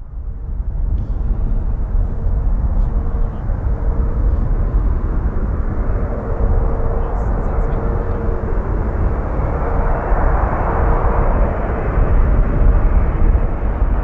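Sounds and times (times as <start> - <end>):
aircraft engine rumble: 0.0 - 14.0
faint steady whine: 0.0 - 14.0
wind buffeting microphone: 0.0 - 14.0.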